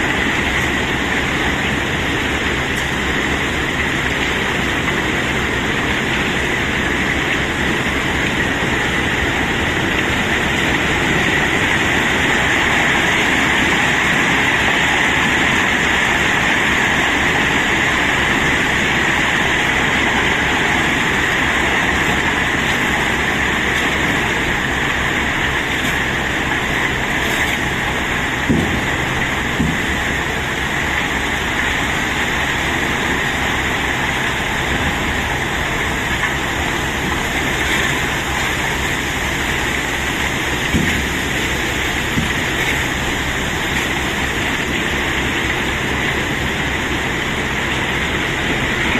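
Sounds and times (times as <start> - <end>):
cobblestones rumbling while unloaded: 0.0 - 48.9.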